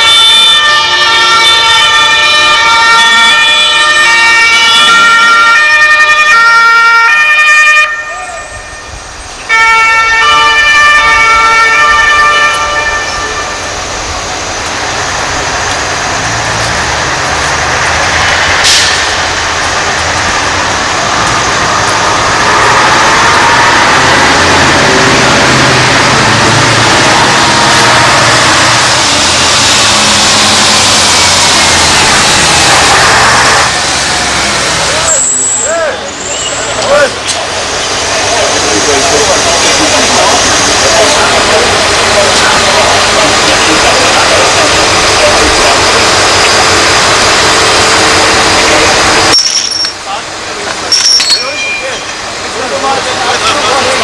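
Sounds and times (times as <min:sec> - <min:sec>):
fire engine sirens: 0:00.0 - 0:54.0
heavy truck engines: 0:00.0 - 0:54.0
street traffic: 0:00.0 - 0:54.0.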